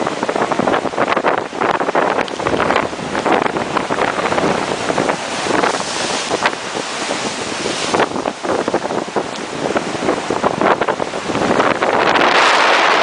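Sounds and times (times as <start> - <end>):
storm waves breaking: 0.0 - 13.0
wind buffeting microphone: 0.0 - 13.0.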